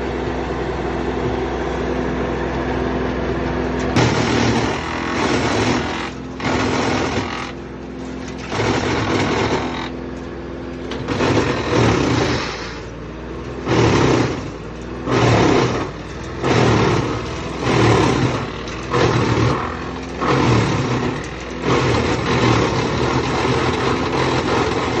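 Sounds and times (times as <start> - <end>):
engine drone: 0.0 - 25.0
wood chipper chipping logs: 0.0 - 25.0.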